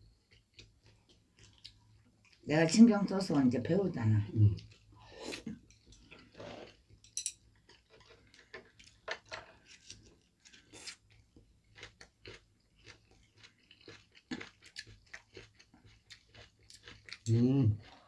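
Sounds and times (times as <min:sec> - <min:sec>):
people chewing food: 0:00.0 - 0:18.0.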